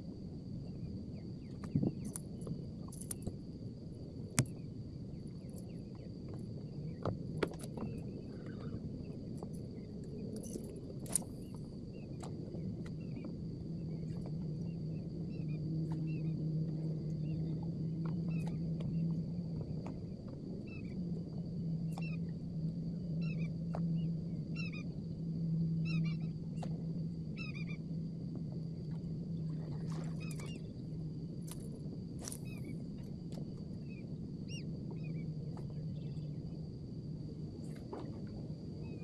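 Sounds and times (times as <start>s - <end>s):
high insect drone: 0.0s - 39.0s
low hum: 0.0s - 39.0s.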